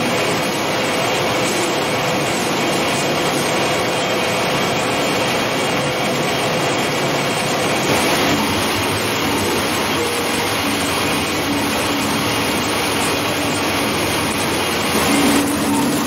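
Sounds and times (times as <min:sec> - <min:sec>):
food-processing machinery running: 0:00.0 - 0:16.0.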